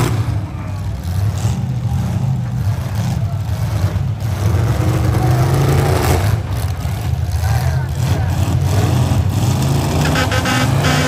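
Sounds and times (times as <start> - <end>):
car engines rumbling under load: 0.0 - 11.0.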